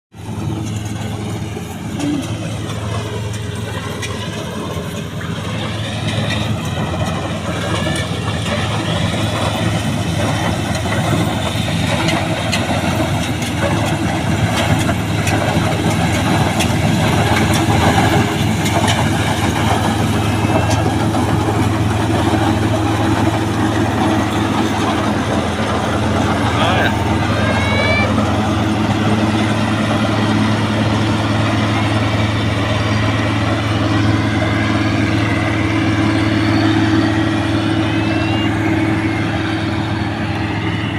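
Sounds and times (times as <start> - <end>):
combine harvester diesel engine: 0.1 - 40.9.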